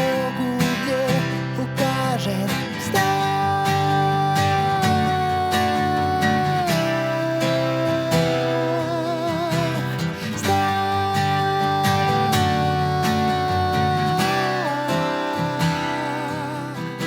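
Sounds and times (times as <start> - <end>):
strummed guitars: 0.0 - 17.0.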